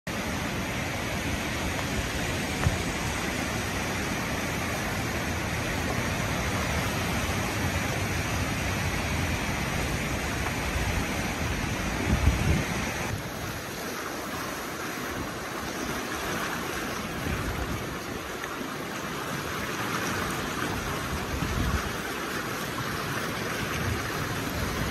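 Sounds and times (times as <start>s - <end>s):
river water rushing: 0.1s - 24.9s.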